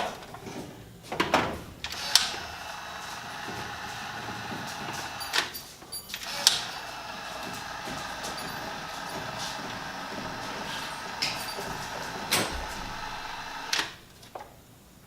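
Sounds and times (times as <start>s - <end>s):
mechanical hum with faint whine: 0.0s - 15.0s.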